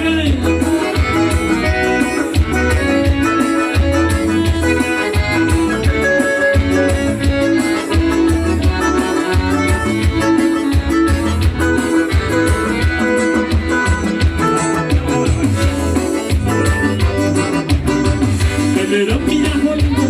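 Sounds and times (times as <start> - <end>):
plucked-string lead melody: 0.0 - 20.0.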